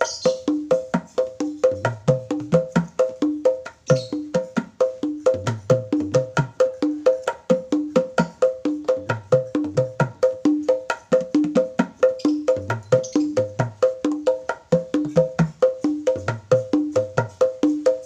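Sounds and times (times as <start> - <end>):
hand drums played fast: 0.0 - 18.0.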